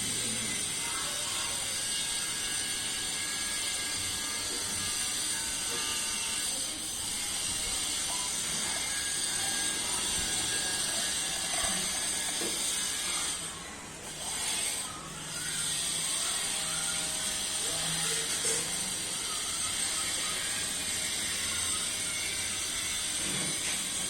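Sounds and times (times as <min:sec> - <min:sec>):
cutting tool scraping metal: 0:00.0 - 0:24.0
drill press motor: 0:00.0 - 0:24.0.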